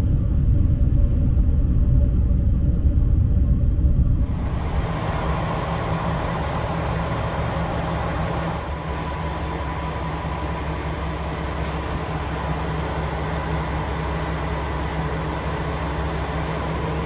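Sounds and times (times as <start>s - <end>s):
diesel railcar engine idling: 0.0s - 17.0s
faint steady whine: 0.0s - 17.0s.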